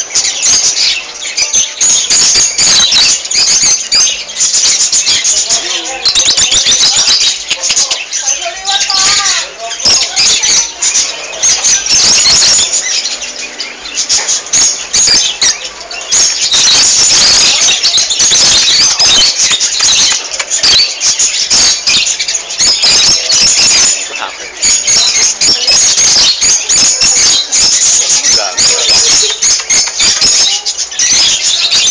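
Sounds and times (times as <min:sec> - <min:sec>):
caged birds chirping and squawking: 0:00.0 - 0:31.9.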